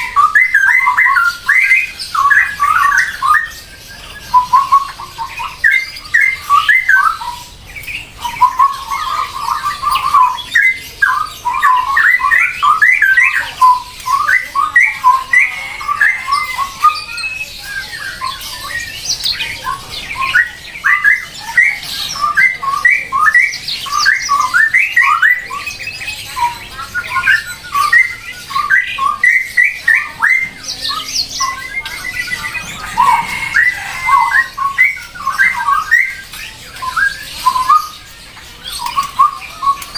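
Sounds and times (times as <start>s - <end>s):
birds squawking and chattering: 0.0s - 39.9s.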